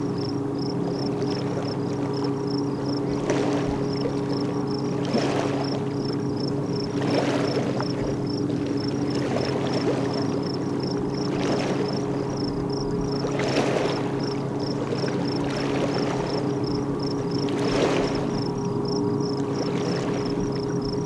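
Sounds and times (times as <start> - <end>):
oars swishing through water: 0.0 - 21.0
steady low hum: 0.0 - 21.0.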